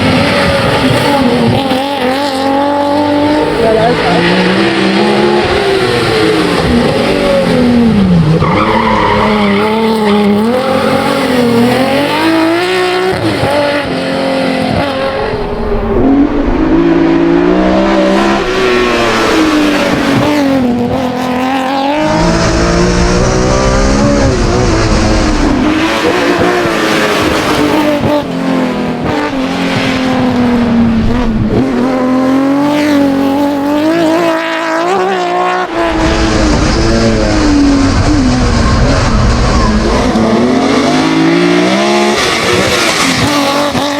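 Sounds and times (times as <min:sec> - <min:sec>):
race car engine revving: 0:00.0 - 0:43.9.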